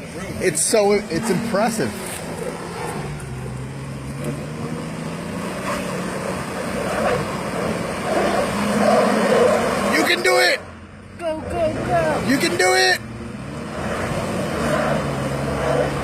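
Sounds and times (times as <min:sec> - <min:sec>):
engine working hard uphill: 0:00.0 - 0:16.0.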